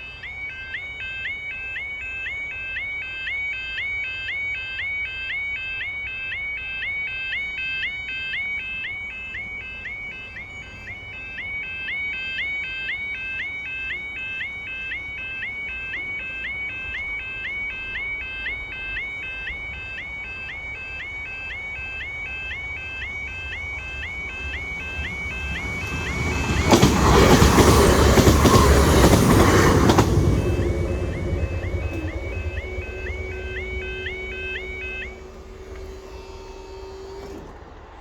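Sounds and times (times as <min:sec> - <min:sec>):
level crossing warning alarm: 0:00.0 - 0:37.7.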